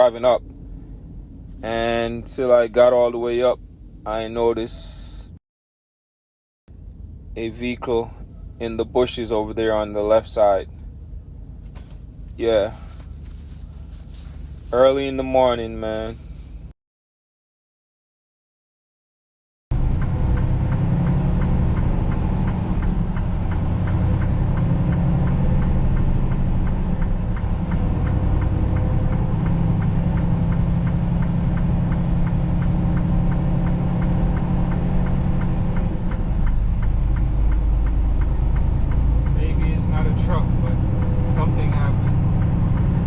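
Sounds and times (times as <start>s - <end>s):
road noise: 0.0s - 5.4s, 6.7s - 16.7s, 19.8s - 43.0s
truck diesel engine drone: 0.0s - 5.4s, 6.7s - 16.7s, 19.7s - 43.0s.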